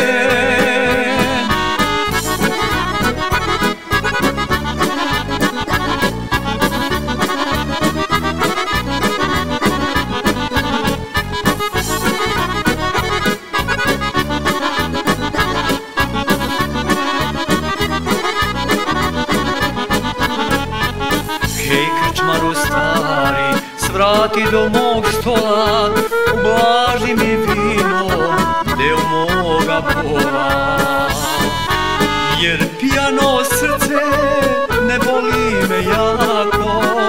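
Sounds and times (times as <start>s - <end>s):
steady beat: 0.0s - 23.6s, 24.8s - 37.0s
accordion melody: 0.0s - 37.0s.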